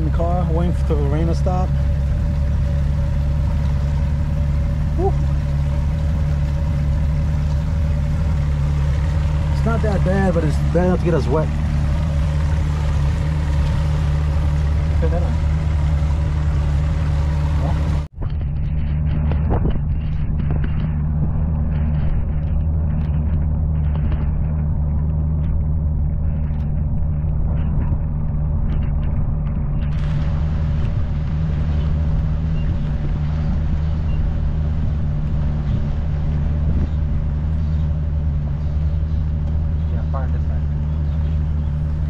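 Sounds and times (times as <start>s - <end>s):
engine droning steadily: 0.0s - 42.0s.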